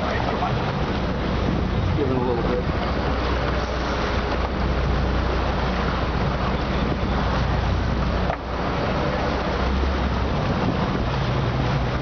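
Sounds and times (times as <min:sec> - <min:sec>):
boat engine rumbling: 0:00.0 - 0:12.0
water rushing along hull: 0:00.0 - 0:12.0
wind on microphone: 0:00.0 - 0:12.0.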